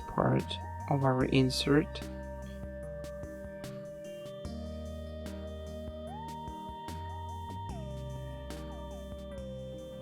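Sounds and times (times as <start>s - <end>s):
held bass notes: 0.0s - 10.0s
sliding electronic melody: 0.0s - 10.0s.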